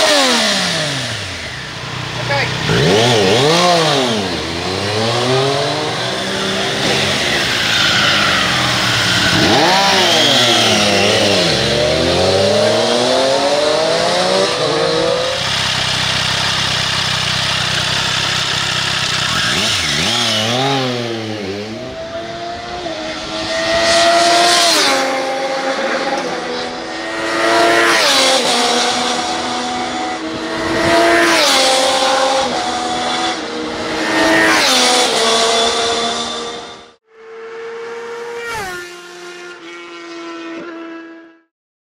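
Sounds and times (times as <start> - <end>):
motorcycle engine revving: 0.0 - 41.2.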